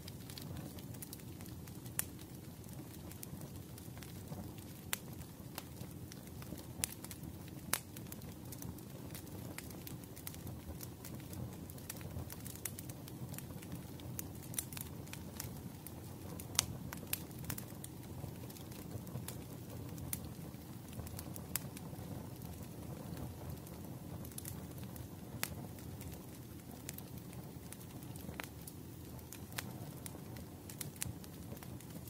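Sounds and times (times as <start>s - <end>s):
firewood crackling and popping: 0.0s - 32.0s
low rumble of flames: 0.0s - 32.0s.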